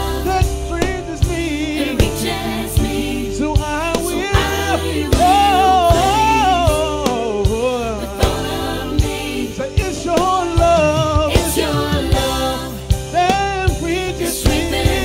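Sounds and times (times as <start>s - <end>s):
drum hits: 0.0s - 15.0s
gospel band playing: 0.0s - 15.0s.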